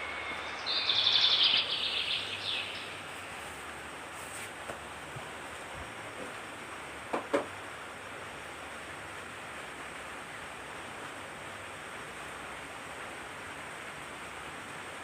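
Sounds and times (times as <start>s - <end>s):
forest ambience hiss: 0.0s - 15.0s.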